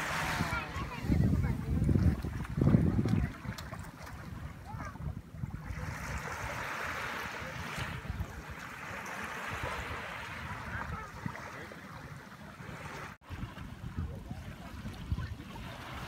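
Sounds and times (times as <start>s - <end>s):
gentle waves on sandy shore: 0.0s - 16.0s
wind rumble on microphone: 0.0s - 16.0s.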